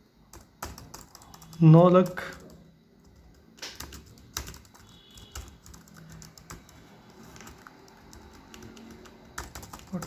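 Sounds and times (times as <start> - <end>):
laptop keyboard keys clicking: 0.3 - 10.0.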